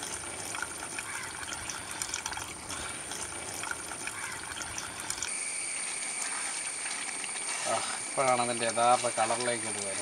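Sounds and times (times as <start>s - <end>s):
liquid pouring into a pot: 0.0s - 10.0s.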